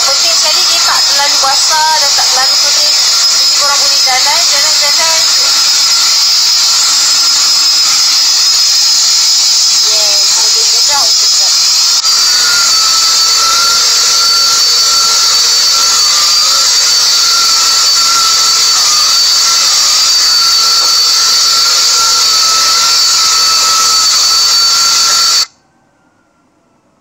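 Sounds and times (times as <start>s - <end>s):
stick vacuum motor whine: 0.0s - 25.5s.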